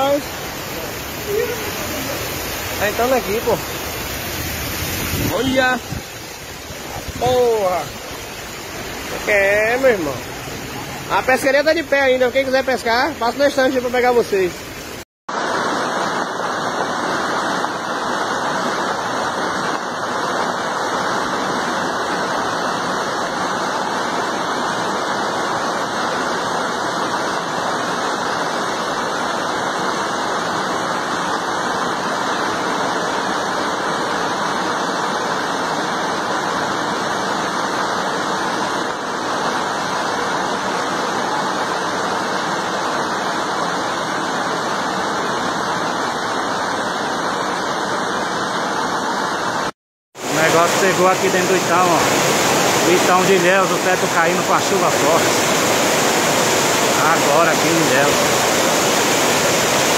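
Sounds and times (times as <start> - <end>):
floodwater rushing: 0.0 - 59.9.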